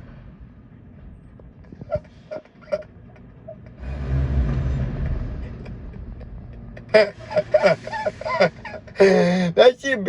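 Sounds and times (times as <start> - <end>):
heavy vehicle engine rumble: 0.0 - 10.0.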